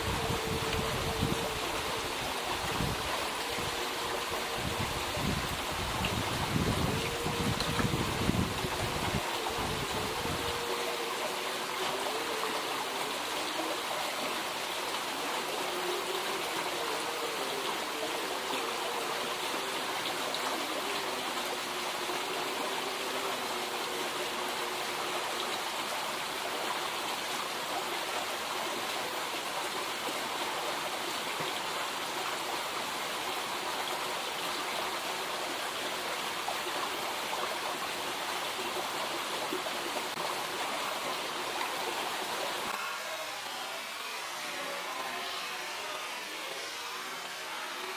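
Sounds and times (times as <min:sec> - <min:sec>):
river water rushing and splashing: 0:00.0 - 0:47.9.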